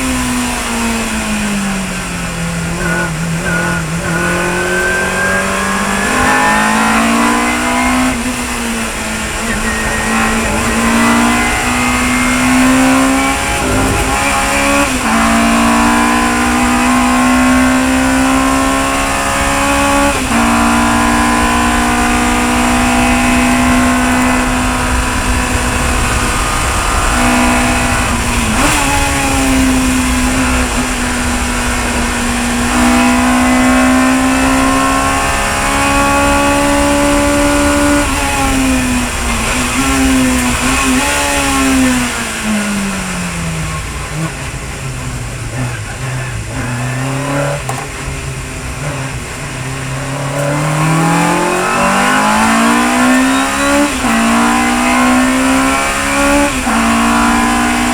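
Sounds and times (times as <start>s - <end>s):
racing car engine changing gear: 0.0s - 57.9s.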